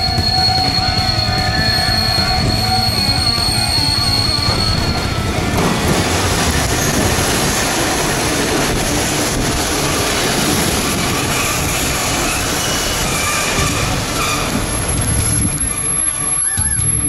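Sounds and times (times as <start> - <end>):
tram wheels running on rails: 0.0 - 17.0.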